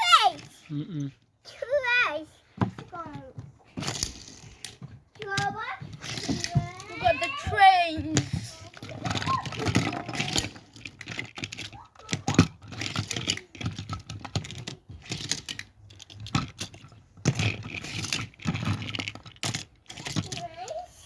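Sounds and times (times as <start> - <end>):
plastic toy trains clattering: 2.6 - 21.0.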